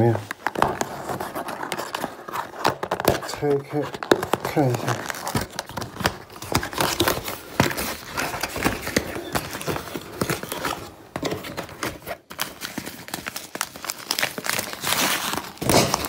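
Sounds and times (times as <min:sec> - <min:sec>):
plastic crinkling: 0:00.0 - 0:16.0
cardboard clicks and scrapes: 0:00.1 - 0:13.3.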